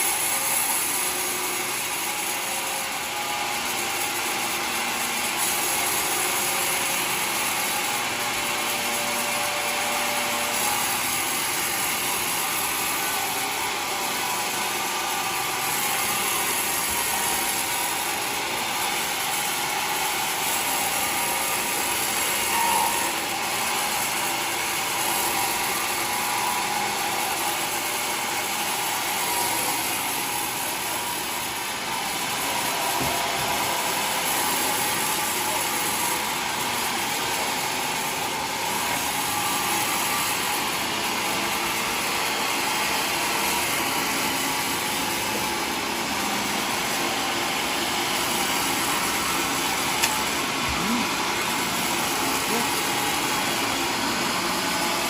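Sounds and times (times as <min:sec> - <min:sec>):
sawmill running: 0:00.0 - 0:55.0.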